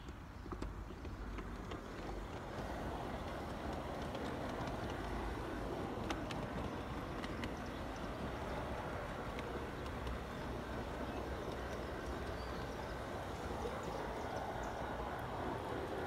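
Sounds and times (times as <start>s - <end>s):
model train wheels rattling: 0.6s - 16.0s.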